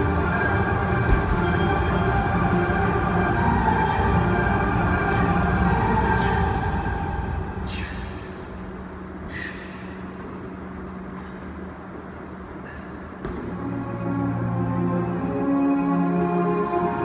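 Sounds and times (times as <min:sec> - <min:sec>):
background music: 0:00.0 - 0:12.4, 0:13.2 - 0:17.0
low hum: 0:00.0 - 0:17.0.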